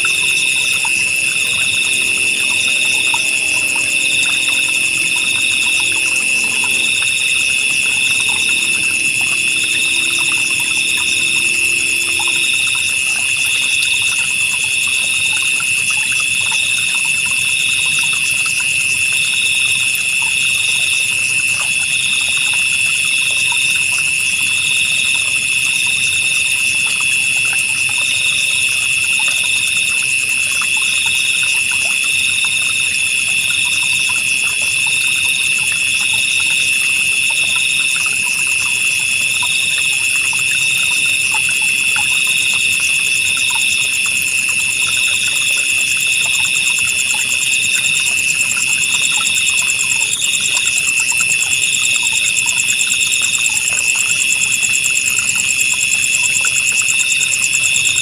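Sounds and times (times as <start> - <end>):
crickets trilling: 0.0 - 58.0
faint water trickle: 0.0 - 58.0
insect call pulsing: 0.0 - 58.0.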